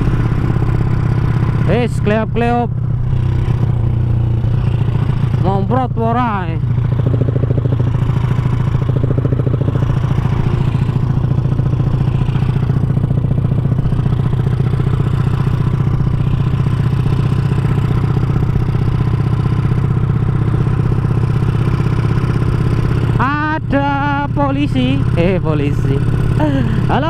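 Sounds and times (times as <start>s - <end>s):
motorcycle engine pulsing: 0.0s - 27.0s.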